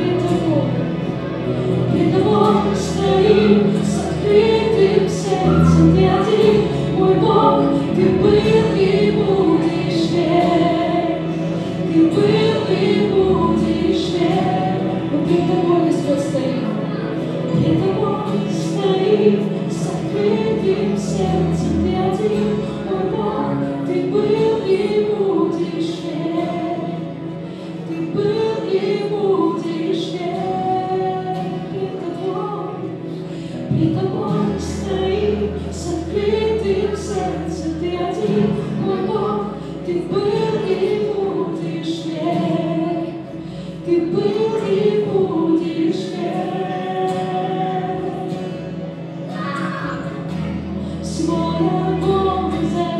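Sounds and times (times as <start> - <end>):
acoustic guitar: 0.0 - 52.9
group singing into microphones: 0.0 - 52.9.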